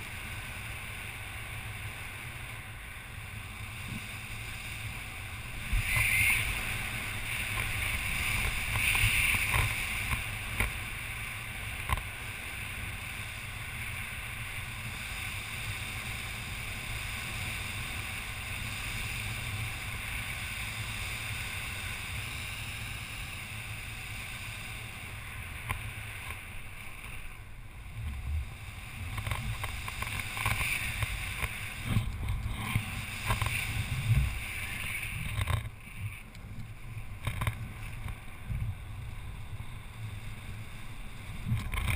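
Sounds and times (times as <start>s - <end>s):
rustles: 0.0s - 41.9s.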